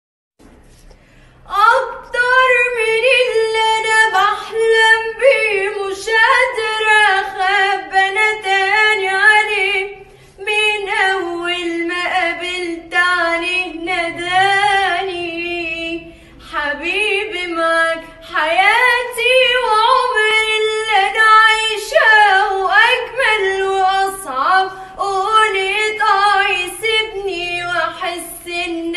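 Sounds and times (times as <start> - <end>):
woman singing unaccompanied: 1.5 - 28.9.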